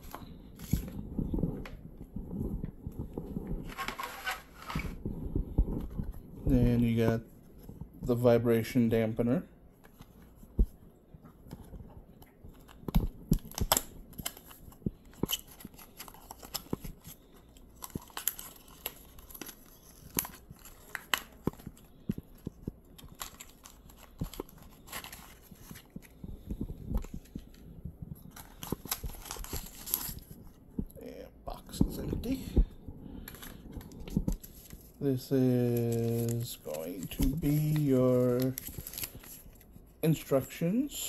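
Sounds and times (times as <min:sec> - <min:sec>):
packaging crinkling and rustling: 0:00.0 - 0:07.8, 0:09.8 - 0:30.8, 0:33.2 - 0:40.6.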